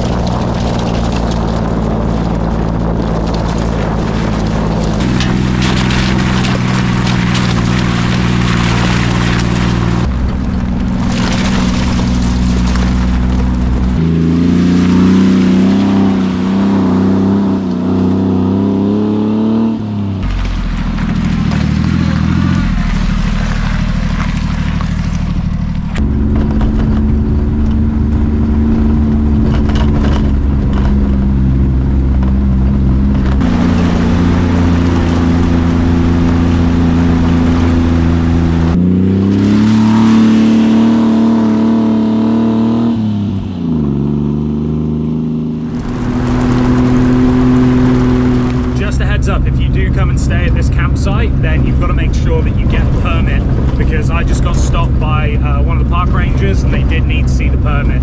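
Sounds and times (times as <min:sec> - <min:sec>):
small truck engine running: 0:00.0 - 0:58.0
wind and road noise: 0:00.0 - 0:58.0.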